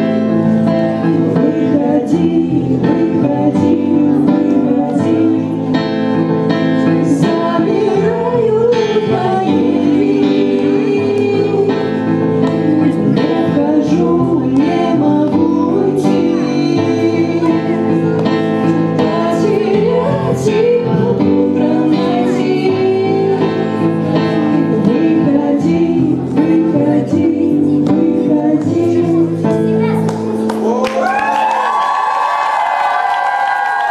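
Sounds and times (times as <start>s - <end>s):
voices singing together: 0.0s - 29.7s.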